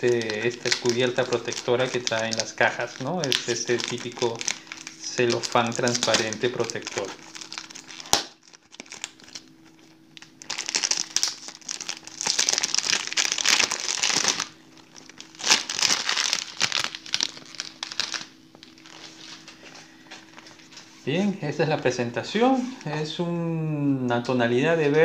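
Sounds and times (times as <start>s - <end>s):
cellophane wrap crinkling: 0.0s - 20.8s.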